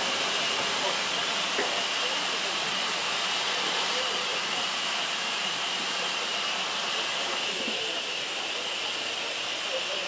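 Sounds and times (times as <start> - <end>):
steam train hiss and rumble: 0.0 - 10.0.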